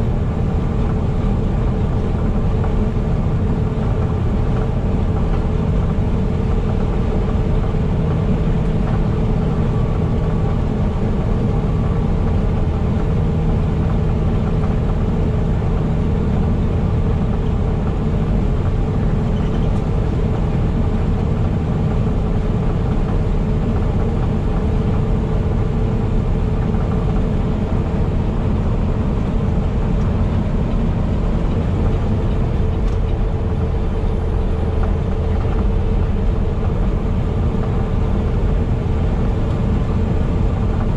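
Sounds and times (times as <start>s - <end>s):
road noise: 0.0s - 40.9s
truck engine drone: 0.0s - 40.9s.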